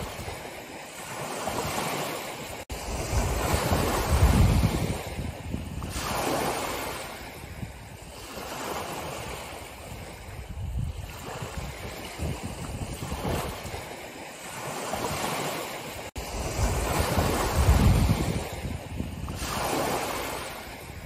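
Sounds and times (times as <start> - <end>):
small waves on pebbly shore: 0.0 - 21.0.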